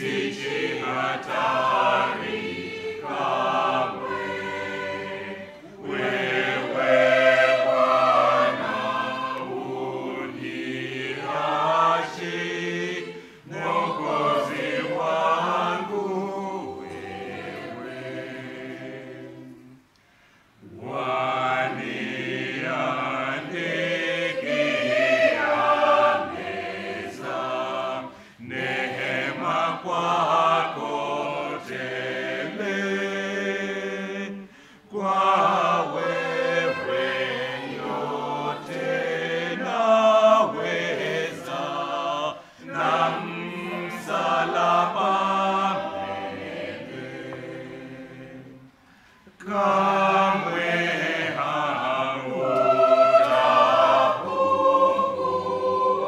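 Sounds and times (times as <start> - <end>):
choir singing a hymn: 0.0 - 19.9, 20.6 - 56.0.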